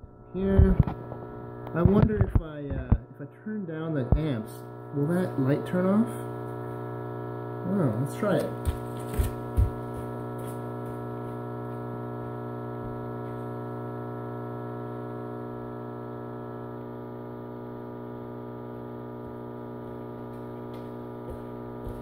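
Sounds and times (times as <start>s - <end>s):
inverter buzzing hum: 0.0s - 22.0s.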